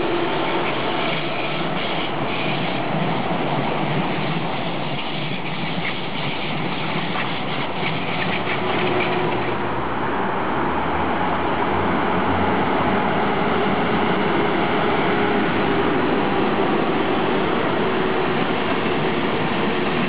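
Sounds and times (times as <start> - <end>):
train approaching rumble: 0.0 - 20.0
train wheels on rails: 0.0 - 20.0.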